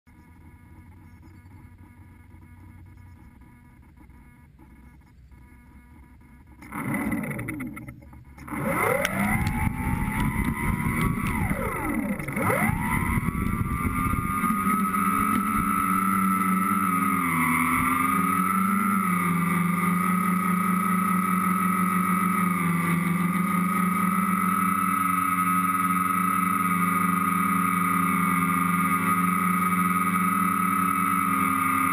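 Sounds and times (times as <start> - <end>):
drone motors and propellers whining: 0.1 - 31.9.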